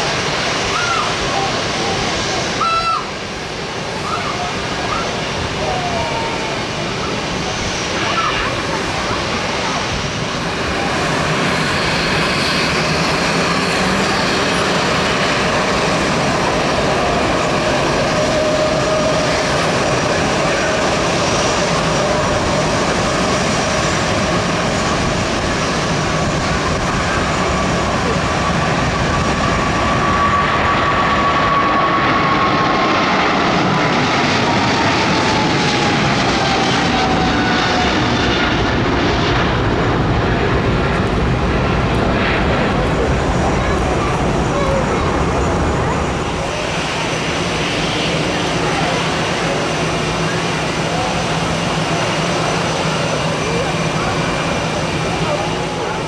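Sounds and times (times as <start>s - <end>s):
jet engine roar with whine: 0.0s - 56.0s.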